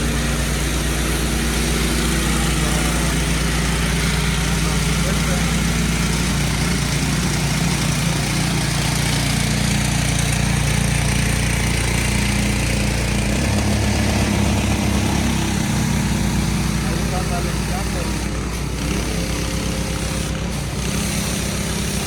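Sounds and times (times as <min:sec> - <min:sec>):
high-pressure water spray hissing: 0:00.0 - 0:22.0
pressure washer engine running: 0:00.0 - 0:22.0.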